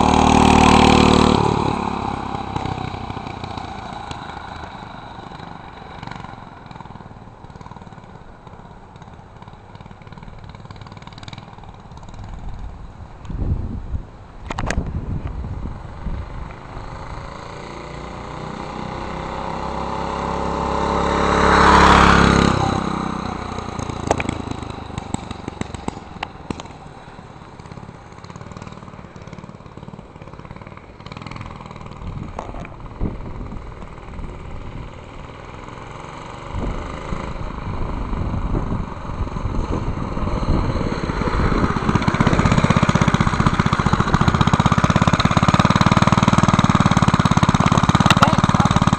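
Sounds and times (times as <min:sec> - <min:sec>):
minibike engine passing: 0:00.0 - 0:48.9.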